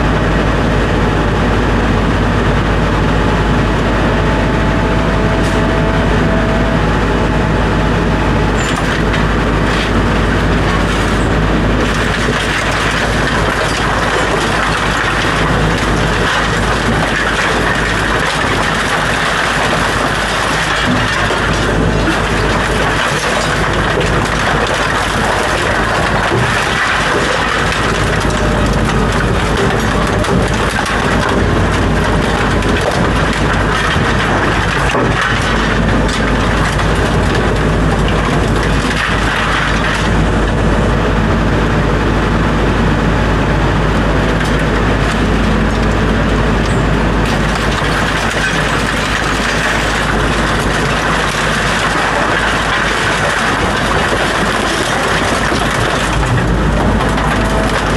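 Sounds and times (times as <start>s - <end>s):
heavy diesel machine running: 0.0s - 57.9s
scrap metal crunching and clattering: 7.2s - 42.0s, 43.5s - 57.9s.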